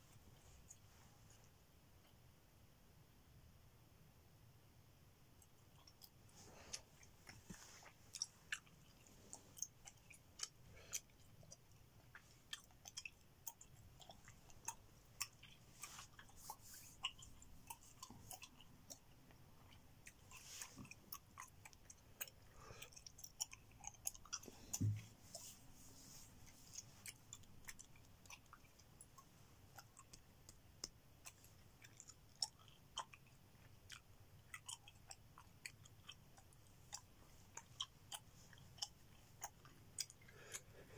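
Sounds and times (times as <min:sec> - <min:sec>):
gum chewing smacks: 0:05.4 - 0:40.9.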